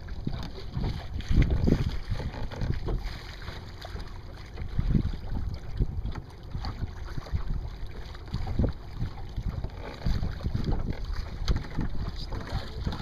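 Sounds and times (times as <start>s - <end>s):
wind buffeting microphone: 0.0s - 3.6s, 4.6s - 13.0s
water splashing against hull: 0.0s - 13.0s.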